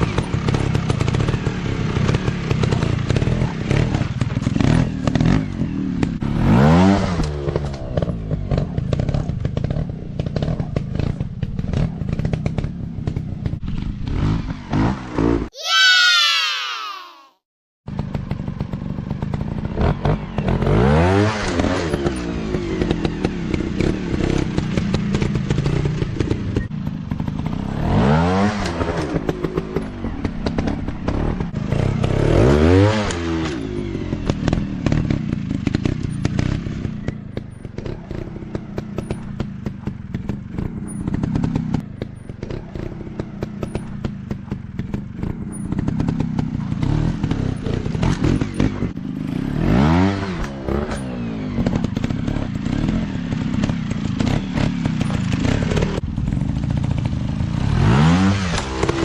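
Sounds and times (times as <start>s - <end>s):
dirt bike engine revving: 0.0s - 17.1s, 17.9s - 44.1s, 44.8s - 59.0s.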